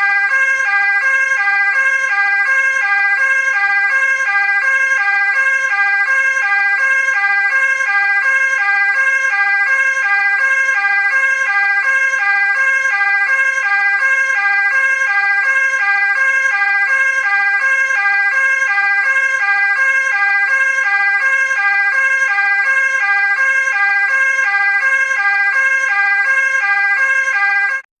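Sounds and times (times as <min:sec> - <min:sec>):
two-tone ambulance siren: 0:00.0 - 0:27.9.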